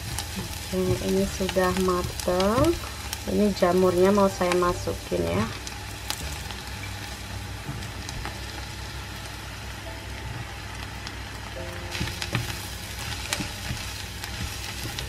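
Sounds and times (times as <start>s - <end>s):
mushrooms sizzling in butter: 0.0s - 15.0s.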